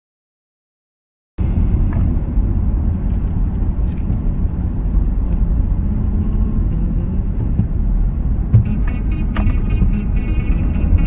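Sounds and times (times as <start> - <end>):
car engine and road noise: 1.4 - 11.0.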